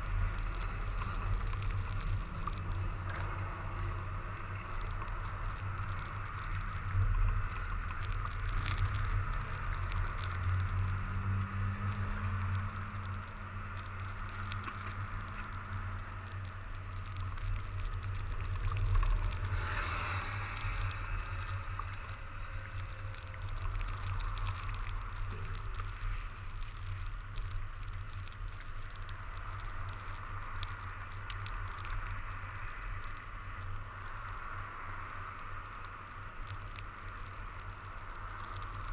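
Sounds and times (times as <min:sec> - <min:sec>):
bike riding through snow: 0:00.0 - 0:38.9.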